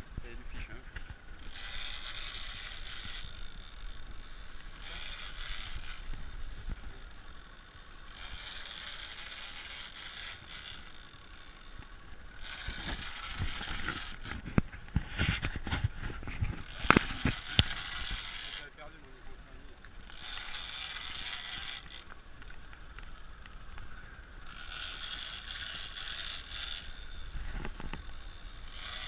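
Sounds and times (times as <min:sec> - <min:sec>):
fishing reel ratchet clicking: 0:01.3 - 0:14.4, 0:16.6 - 0:18.7, 0:19.9 - 0:23.5, 0:24.4 - 0:29.0.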